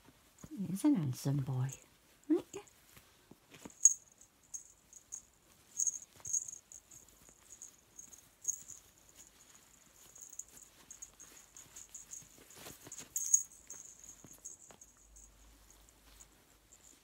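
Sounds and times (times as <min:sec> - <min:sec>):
soft fabric rustling: 0:00.0 - 0:17.0.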